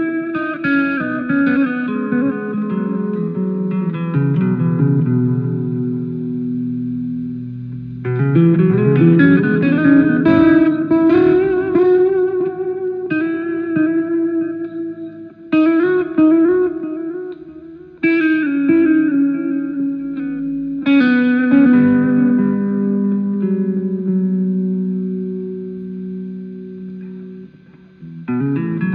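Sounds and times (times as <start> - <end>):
guitar playing: 0.0 - 28.9.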